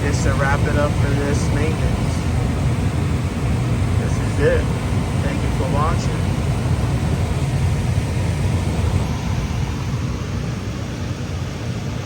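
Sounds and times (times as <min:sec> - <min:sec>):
gas furnace burner and blower rumble: 0:00.0 - 0:12.0.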